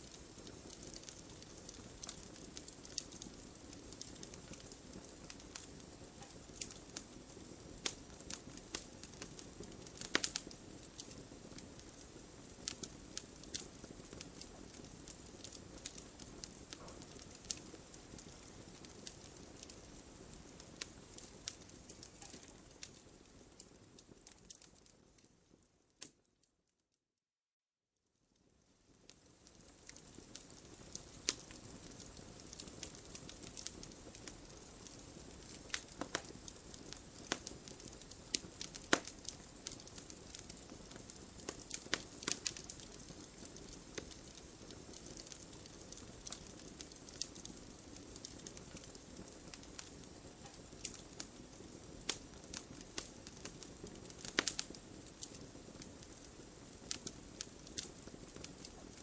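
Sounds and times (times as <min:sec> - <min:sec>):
wood fire crackling: 0:00.0 - 0:26.5, 0:28.4 - 0:59.0.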